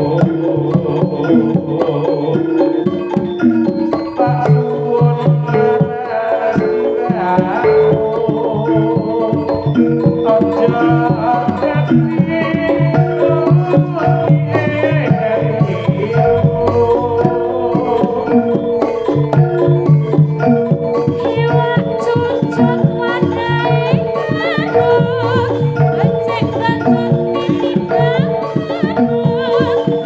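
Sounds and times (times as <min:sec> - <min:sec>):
hand drum patterns: 0:00.0 - 0:30.0
ringing metallophones: 0:00.0 - 0:30.0.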